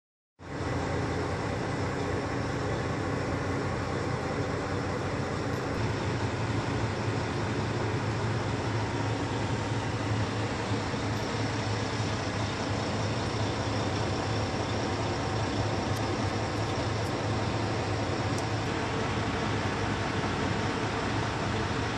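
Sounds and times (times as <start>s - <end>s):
diesel truck engine idling: 0.4s - 21.9s.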